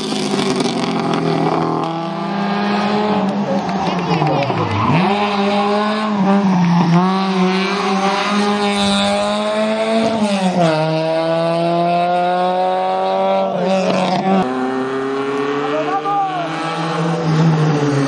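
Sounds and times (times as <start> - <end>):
racing car engine full throttle: 0.0 - 18.0.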